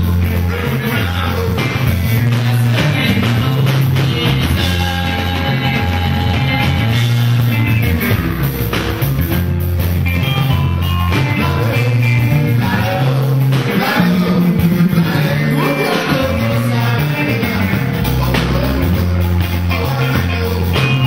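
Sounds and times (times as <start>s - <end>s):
man singing into microphone: 0.0s - 7.5s, 11.4s - 21.0s
bass line: 0.0s - 21.0s
drum kit: 0.0s - 21.0s
electric guitars: 0.0s - 21.0s.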